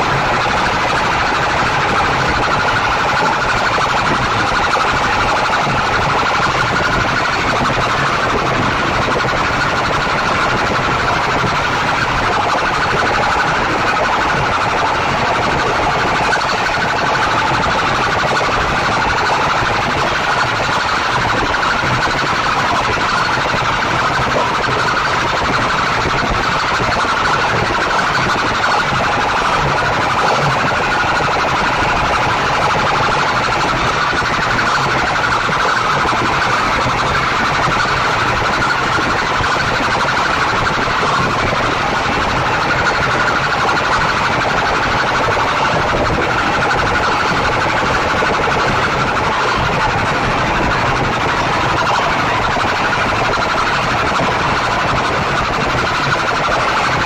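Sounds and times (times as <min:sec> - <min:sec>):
loudspeakers blaring: 0:00.0 - 0:57.0.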